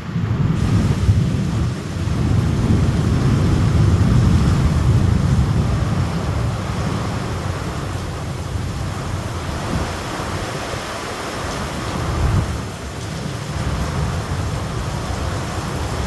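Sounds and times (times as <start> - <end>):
rain hiss: 0.0 - 16.0
thunder rumbling: 0.0 - 16.0.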